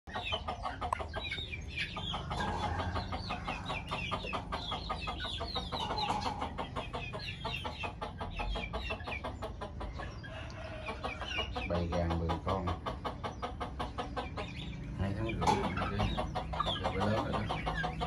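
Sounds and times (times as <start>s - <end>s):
chickens clucking: 0.1s - 18.0s.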